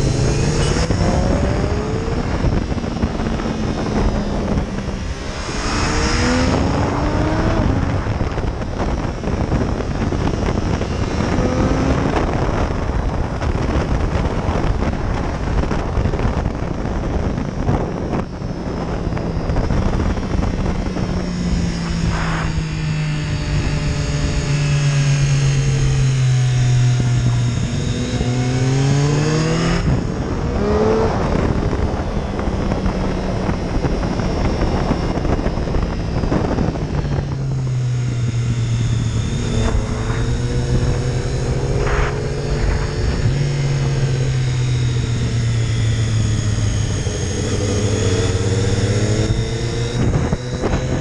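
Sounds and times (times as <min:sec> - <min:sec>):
motorcycle engine: 0:00.0 - 0:51.0
wind rushing over microphone: 0:00.0 - 0:51.0.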